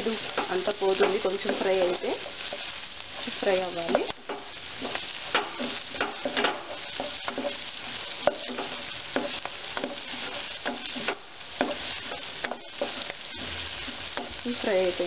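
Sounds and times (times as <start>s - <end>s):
leaves and onions sizzling in oil: 0.0s - 15.0s.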